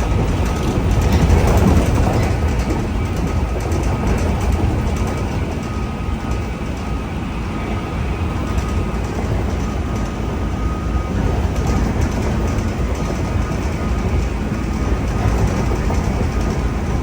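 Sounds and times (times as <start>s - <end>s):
rail joint clicks: 0.0s - 17.0s
train wheels rumbling on rail: 0.0s - 17.0s.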